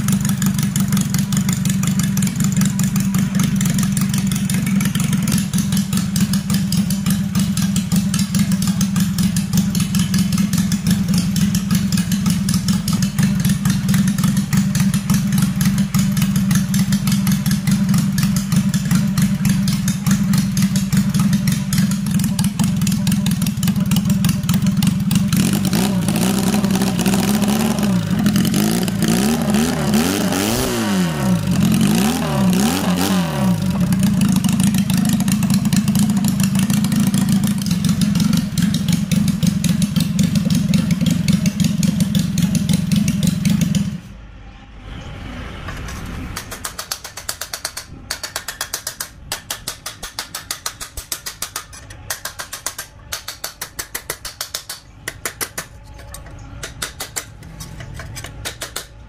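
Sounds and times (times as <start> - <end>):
engine revving: 0.0 - 47.9.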